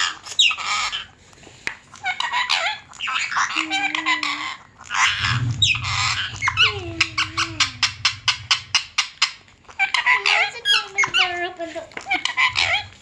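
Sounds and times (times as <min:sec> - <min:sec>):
parrot squeaky chatter: 0:00.0 - 0:01.2, 0:01.9 - 0:13.0.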